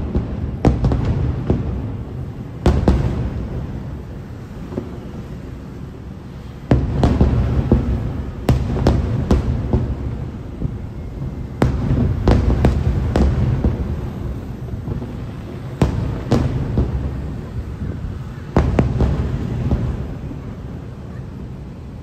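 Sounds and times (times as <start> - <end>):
rolling rumble of echoes: 0.0 - 22.0.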